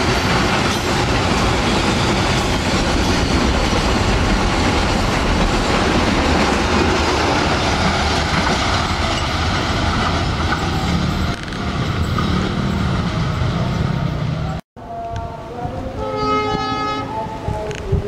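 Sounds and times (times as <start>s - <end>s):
freight train wheels rumbling: 0.0s - 14.6s.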